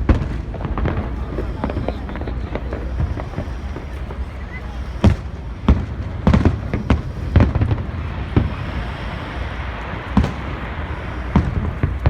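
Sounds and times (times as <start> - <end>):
fireworks bangs: 0.0 - 12.0
low rumble and crackle: 0.0 - 12.0.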